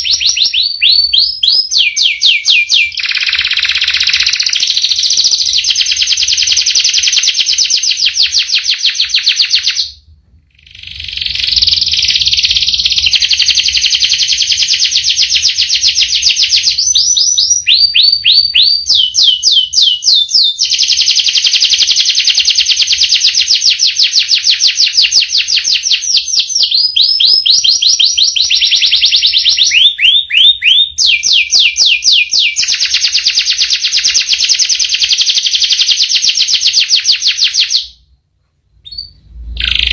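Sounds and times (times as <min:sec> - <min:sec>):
canary singing trills: 0:00.0 - 0:38.0, 0:38.8 - 0:39.9.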